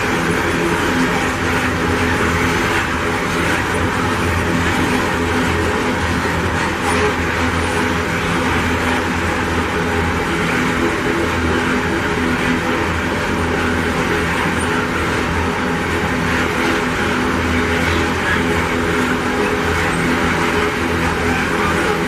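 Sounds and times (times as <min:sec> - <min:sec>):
freight wagons rumbling on rails: 0:00.0 - 0:22.0.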